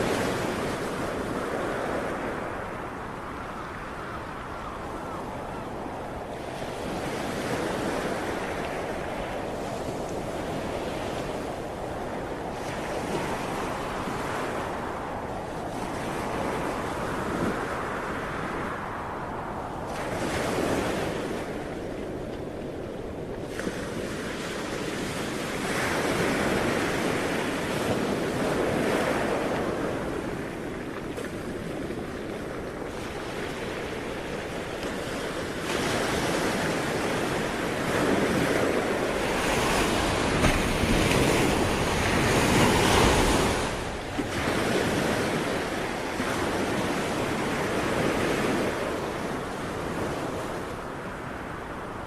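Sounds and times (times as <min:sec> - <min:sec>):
ocean waves breaking on shore: 0:00.0 - 0:52.0
wind: 0:00.0 - 0:52.0.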